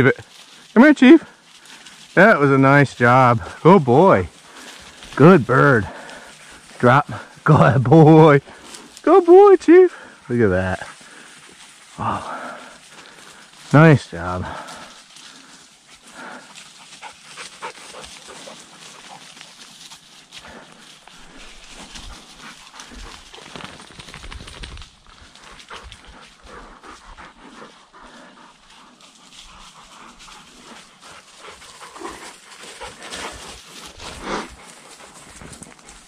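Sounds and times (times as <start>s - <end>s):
dogs panting: 0.0s - 36.0s
rustle of dry grass and brush: 0.0s - 36.0s.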